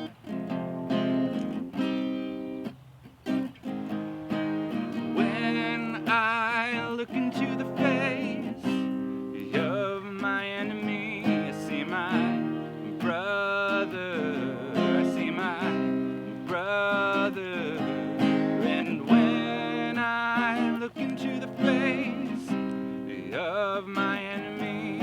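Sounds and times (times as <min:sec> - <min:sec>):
acoustic guitar strumming: 0:00.0 - 0:25.0
person singing: 0:04.6 - 0:25.0.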